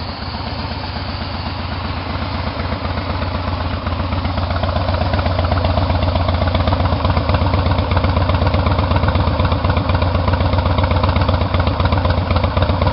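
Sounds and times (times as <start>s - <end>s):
motorcycle exhaust idling: 0.0s - 12.9s.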